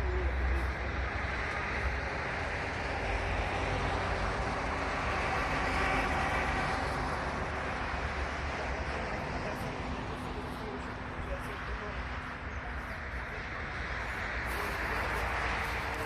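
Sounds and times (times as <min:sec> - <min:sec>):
rumble of passing traffic: 0:00.0 - 0:16.0.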